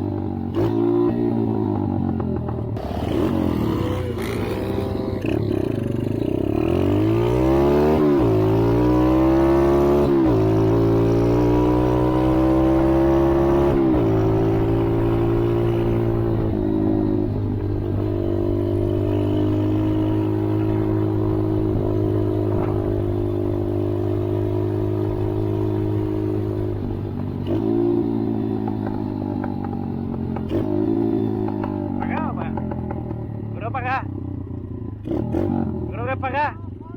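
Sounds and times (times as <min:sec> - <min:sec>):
atv engine accelerating: 0:00.0 - 0:36.9.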